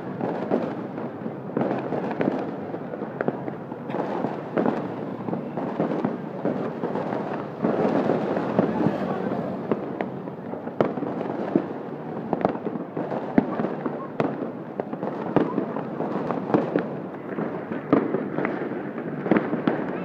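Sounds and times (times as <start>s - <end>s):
crowd noise: 0.0s - 20.0s
fireworks cracking and popping: 0.0s - 20.0s.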